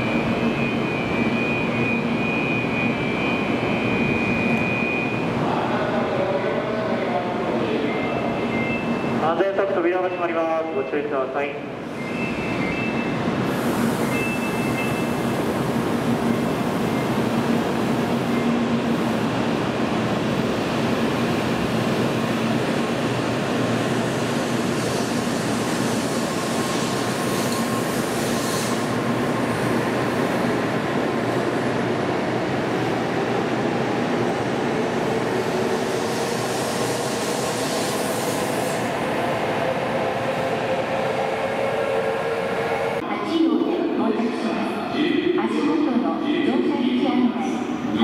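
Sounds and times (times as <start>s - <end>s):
train running noise: 0.0s - 48.0s.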